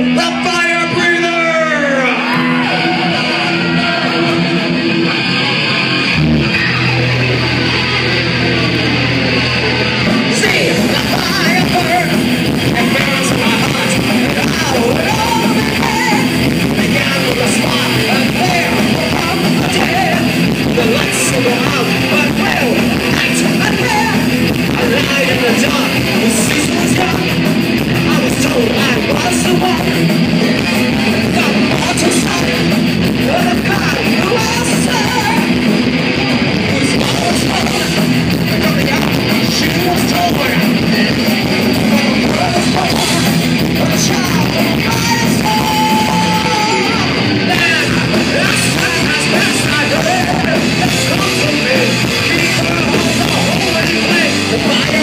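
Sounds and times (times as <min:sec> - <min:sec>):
distorted guitars and bass: 0:00.0 - 0:55.0
vocalist singing: 0:00.0 - 0:55.0
drums and cymbals: 0:03.0 - 0:55.0.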